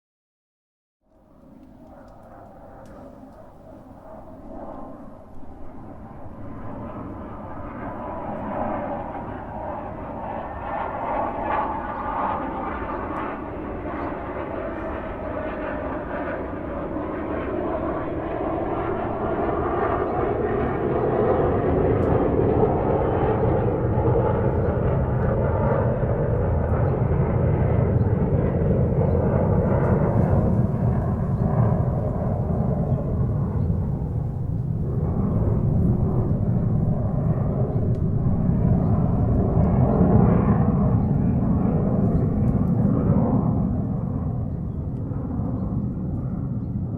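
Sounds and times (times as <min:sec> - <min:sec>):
airplane cabin engine roar: 0:01.3 - 0:46.9.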